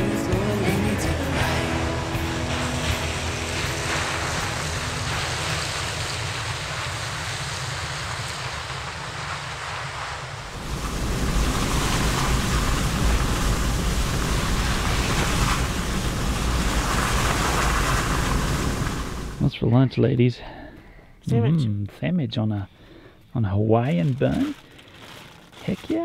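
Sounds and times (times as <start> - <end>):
tyre and road noise inside vehicle: 0.0 - 19.4, 23.8 - 26.0.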